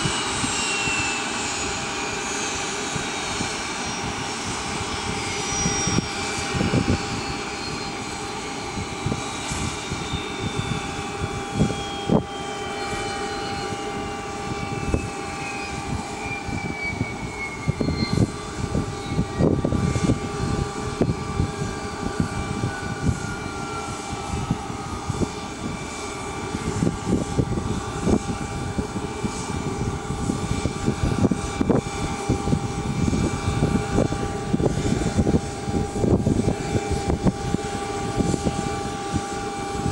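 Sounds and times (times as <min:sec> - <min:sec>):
jet engines spooling down: 0:00.0 - 0:39.9
steady hums: 0:00.0 - 0:39.9.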